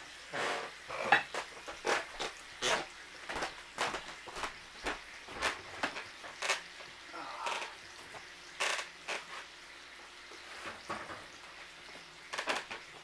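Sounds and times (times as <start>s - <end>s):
bacon sizzling in skillet: 0.0s - 13.0s
fat crackling and popping: 0.2s - 9.7s, 10.3s - 13.0s.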